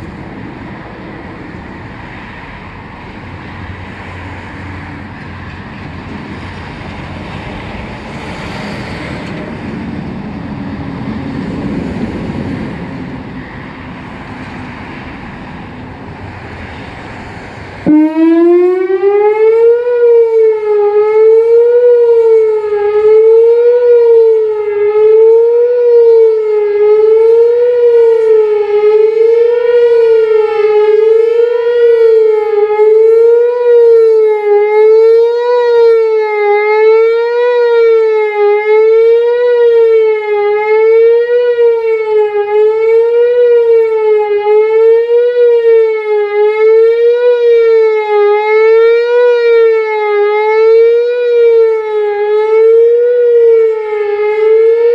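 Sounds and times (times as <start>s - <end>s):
warning siren fast wail: 0.0s - 54.9s.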